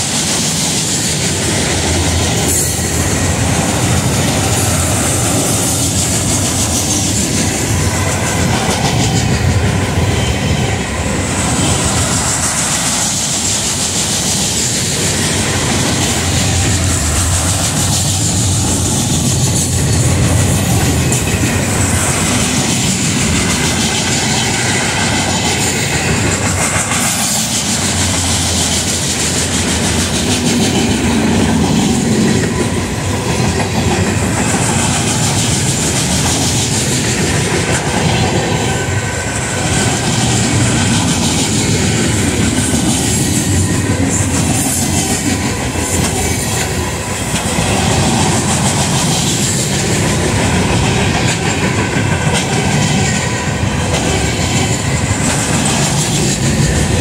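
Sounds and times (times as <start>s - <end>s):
train wheels clacking on rail joints: 0.0s - 57.0s.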